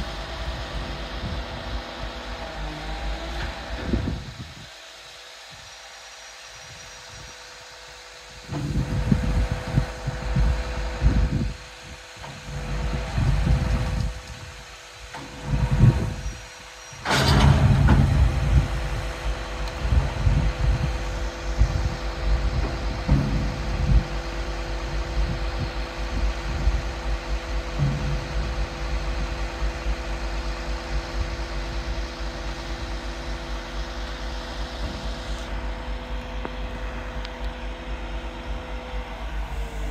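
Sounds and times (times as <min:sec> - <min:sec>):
excavator diesel engine whining: 0:00.0 - 0:39.9.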